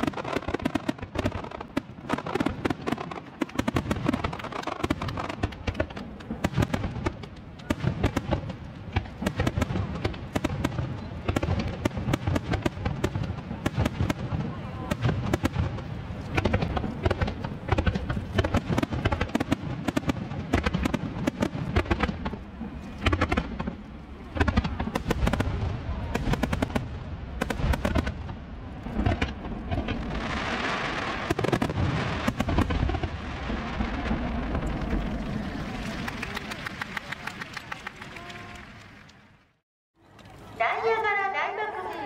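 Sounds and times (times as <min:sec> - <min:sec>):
fireworks bangs and crackles: 0:00.0 - 0:39.6.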